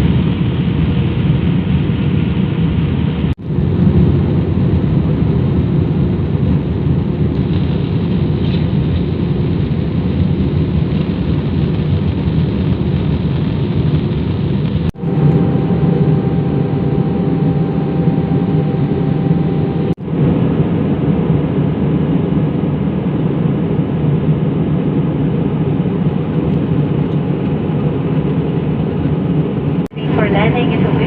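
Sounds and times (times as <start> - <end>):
airliner engine drone in cabin: 0.0 - 31.0.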